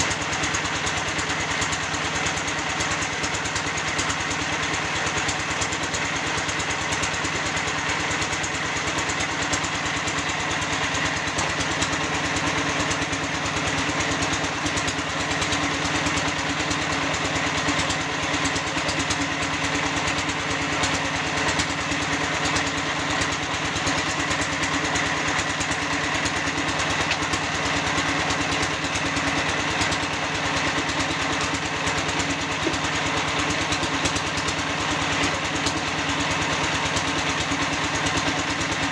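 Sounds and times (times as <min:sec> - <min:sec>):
small engine running with buzz: 0:00.0 - 0:38.9.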